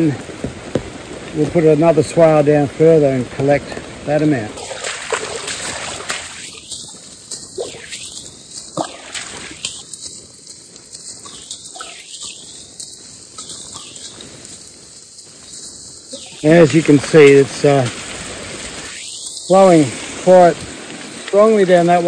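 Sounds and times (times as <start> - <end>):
rainwater running in channel: 0.0 - 22.0.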